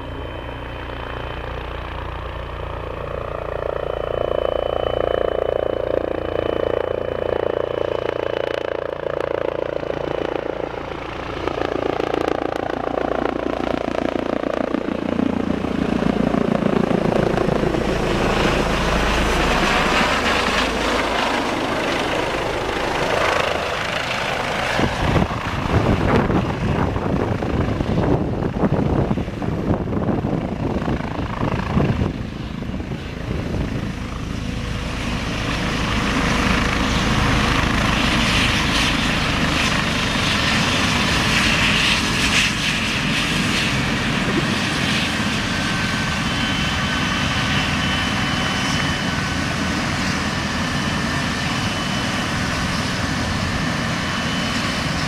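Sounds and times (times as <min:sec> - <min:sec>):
helicopter rotor noise: 0:00.0 - 0:55.0
high turbine whine: 0:00.0 - 0:55.0.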